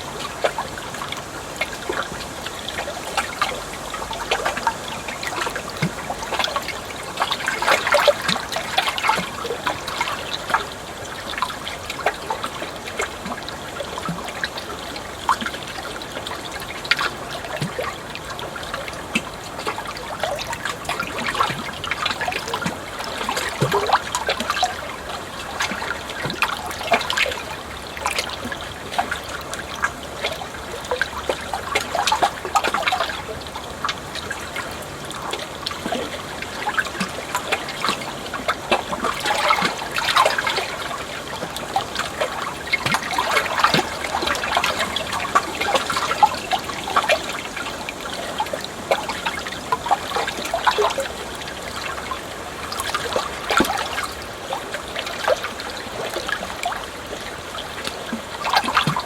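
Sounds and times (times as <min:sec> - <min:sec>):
water trickling and gurgling: 0:00.0 - 0:59.0.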